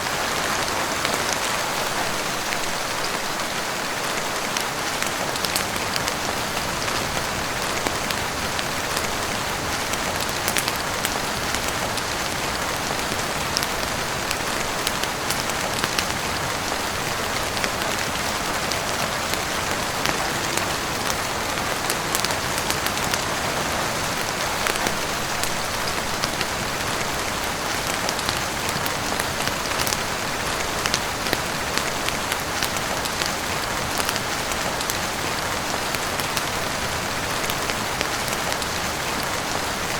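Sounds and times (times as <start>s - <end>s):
heavy rain on roof and windows: 0.0s - 39.9s.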